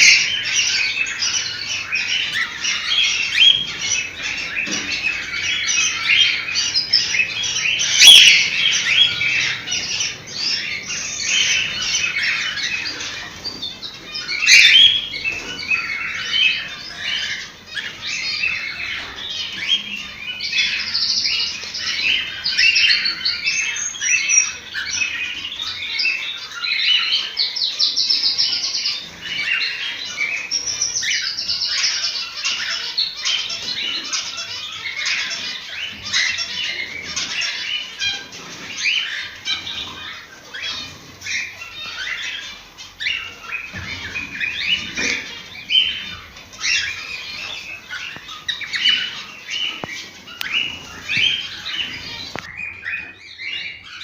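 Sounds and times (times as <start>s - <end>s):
cockatiels chirping and calling: 0.0s - 54.0s.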